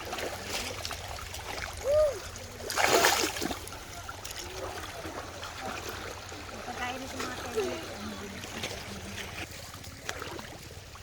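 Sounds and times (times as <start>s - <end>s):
loud water splash: 0.0s - 9.0s
river water running: 0.0s - 11.0s.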